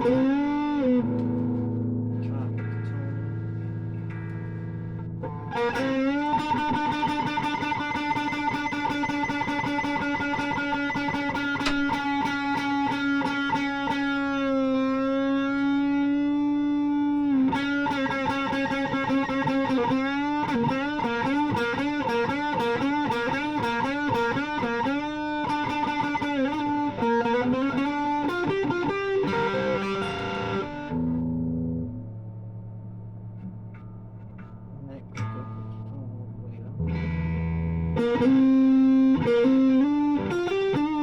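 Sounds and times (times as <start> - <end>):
distorted electric guitar lead: 0.0 - 41.0.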